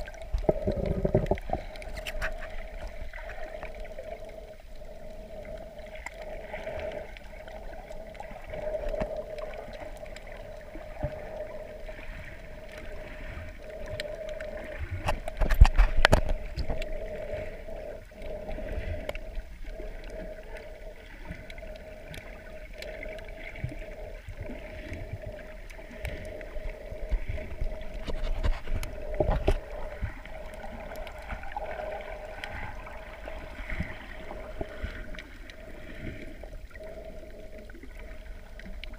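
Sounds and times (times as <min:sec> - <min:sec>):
faint crackle: 0:00.0 - 0:38.9
muffled underwater hum: 0:00.0 - 0:38.9.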